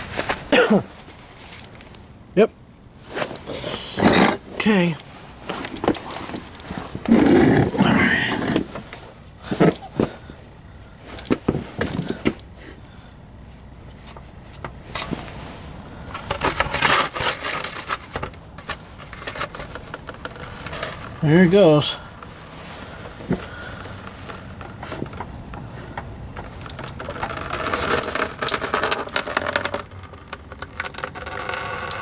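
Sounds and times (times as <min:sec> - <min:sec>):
handling noises and rustling: 0:00.0 - 0:02.2, 0:03.0 - 0:32.0.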